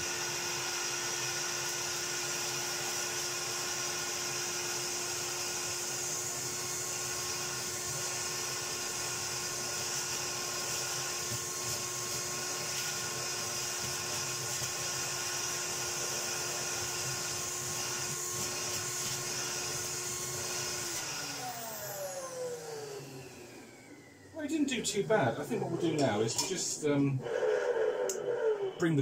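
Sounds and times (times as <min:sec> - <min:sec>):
vacuum motor high whine: 0:00.0 - 0:29.0.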